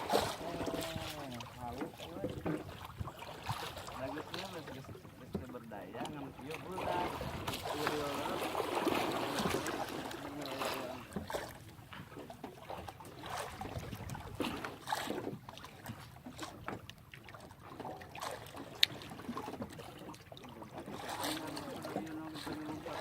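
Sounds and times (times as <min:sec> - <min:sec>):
water lapping against boat: 0:00.0 - 0:23.0.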